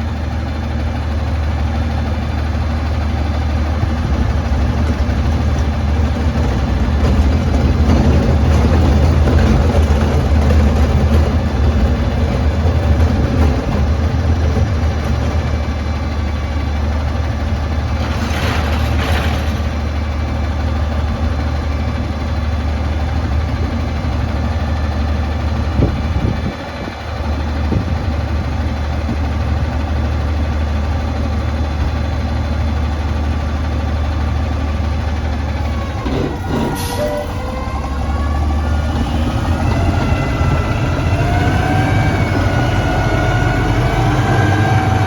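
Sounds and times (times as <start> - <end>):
garbage truck engine idling: 0.0 - 45.0.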